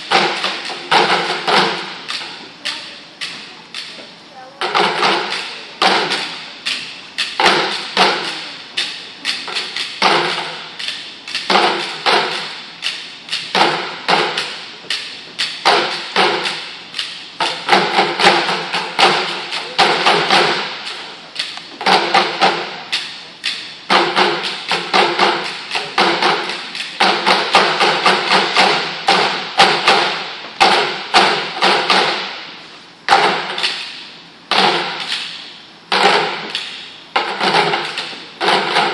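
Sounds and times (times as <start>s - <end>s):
sticks drumming on plastic buckets: 0.0s - 38.9s.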